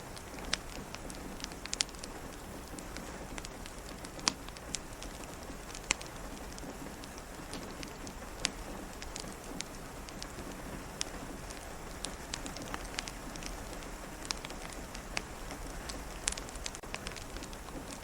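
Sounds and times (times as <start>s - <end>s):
rain pattering on a window: 0.0s - 18.0s
wood fire crackling and popping: 0.0s - 18.0s.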